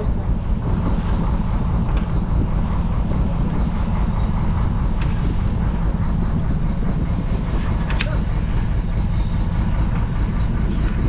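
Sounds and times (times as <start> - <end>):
boat engine droning: 0.0 - 11.0
wind on microphone: 0.0 - 11.0.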